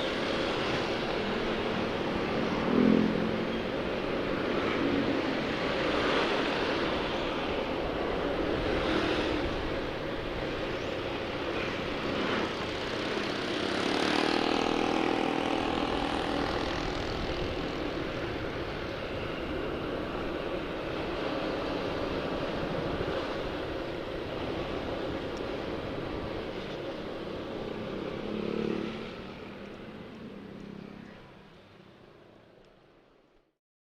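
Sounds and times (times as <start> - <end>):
motorcycle engine hum: 0.0 - 31.8
road noise: 0.0 - 33.5
wind rushing over microphone: 0.1 - 29.9.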